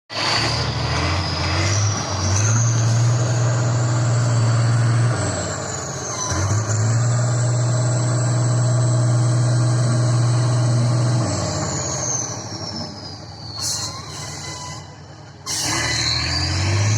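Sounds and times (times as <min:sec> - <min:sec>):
truck engine running hard: 0:00.1 - 0:16.9.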